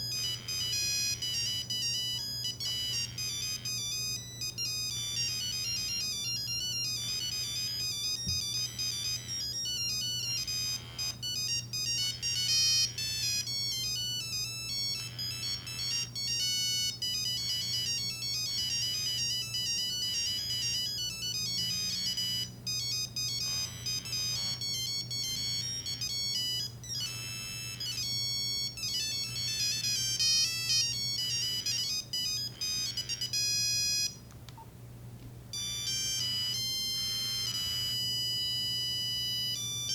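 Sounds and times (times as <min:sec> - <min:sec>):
phone ringtone beeping melody: 0:00.0 - 0:34.2, 0:35.5 - 0:39.9.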